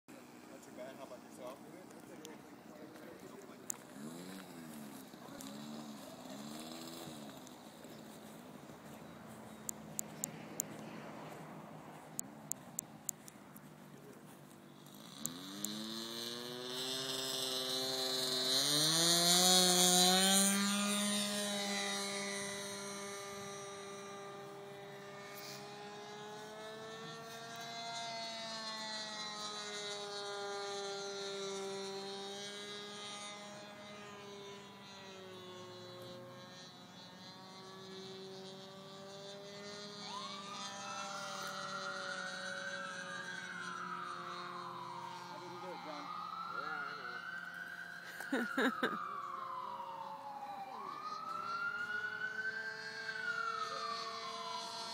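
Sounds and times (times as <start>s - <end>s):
model airplane motor droning: 0.1s - 54.9s.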